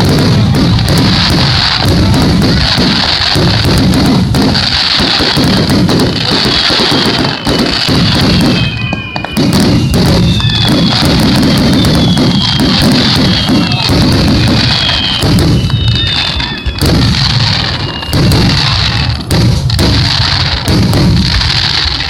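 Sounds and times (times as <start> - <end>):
fireworks booming: 0.0 - 22.0
fireworks crackling: 0.0 - 22.0
fireworks whistles: 0.0 - 22.0.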